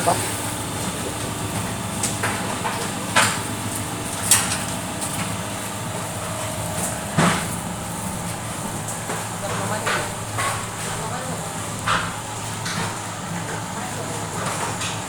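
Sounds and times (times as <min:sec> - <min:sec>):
press machine humming: 0:00.0 - 0:15.0.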